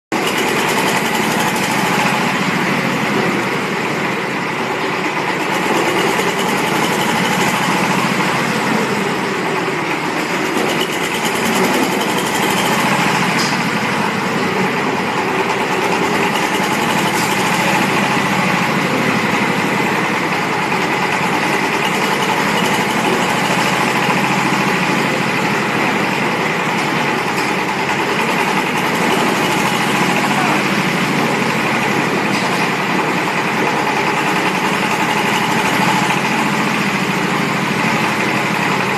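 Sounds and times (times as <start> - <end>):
concrete mixer diesel engine running: 0.1 - 38.9.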